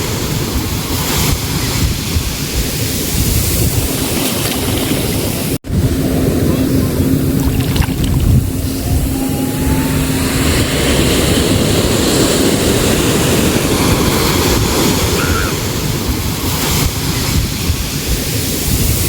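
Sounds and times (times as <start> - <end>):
sea waves washing: 0.0 - 19.0
wind rumbling on microphone: 0.0 - 19.0.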